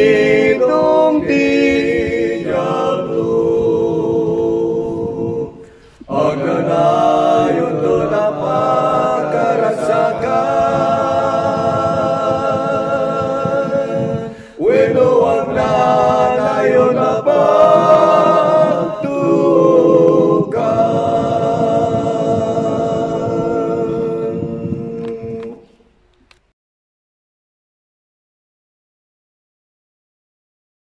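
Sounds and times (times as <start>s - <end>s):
layered male vocal harmony singing: 0.0s - 25.7s.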